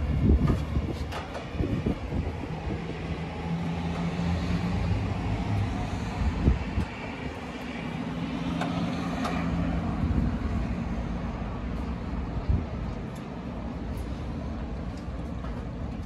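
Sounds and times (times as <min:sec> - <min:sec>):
vehicle engine humming past: 0:00.0 - 0:14.7
road traffic: 0:00.0 - 0:16.0.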